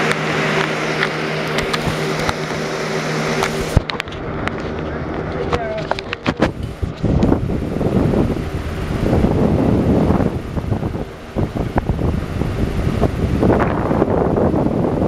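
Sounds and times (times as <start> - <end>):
box fan airflow buffeting microphone: 0.0 - 15.0.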